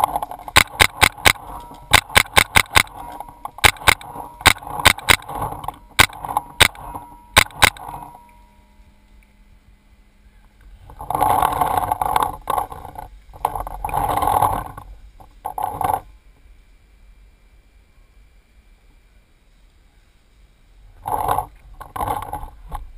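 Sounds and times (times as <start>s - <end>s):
rustling and scraping movement: 0.0s - 9.4s, 10.4s - 16.5s, 19.4s - 22.9s.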